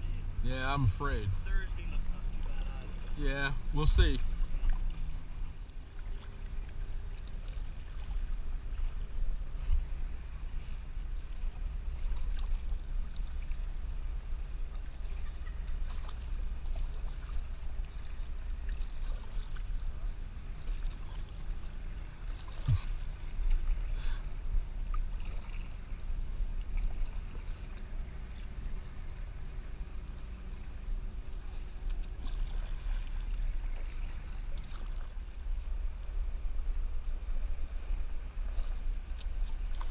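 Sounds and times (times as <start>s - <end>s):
paddle blades dipping: 0.0s - 39.9s
water lapping against hull: 0.0s - 39.9s
wind rumble on microphone: 0.0s - 39.9s.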